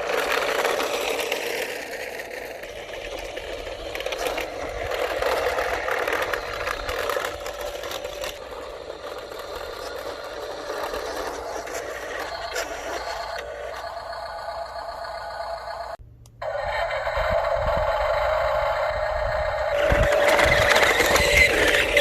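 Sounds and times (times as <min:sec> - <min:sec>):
toy electric motors whirring: 0:00.0 - 0:22.0.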